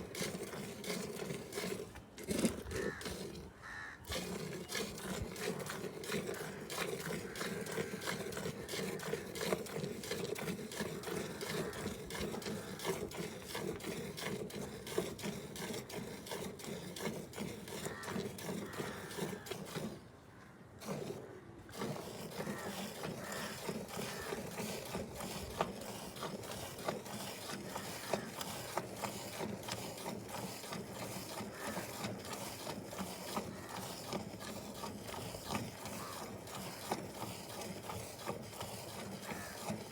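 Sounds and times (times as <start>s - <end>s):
cow being milked: 0.0s - 39.9s.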